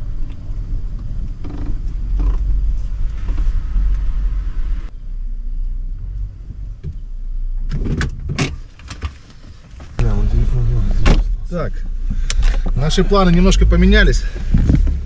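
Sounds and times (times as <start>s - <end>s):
car engine idling rumble: 0.0s - 15.0s.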